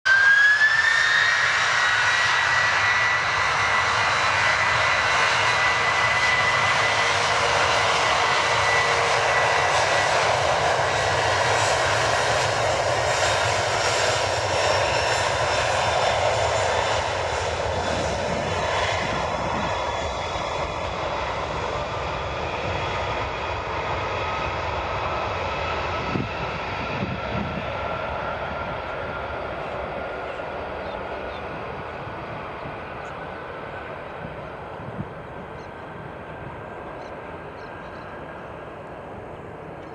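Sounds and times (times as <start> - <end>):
jet engines roaring with fan whine: 0.1 - 39.9.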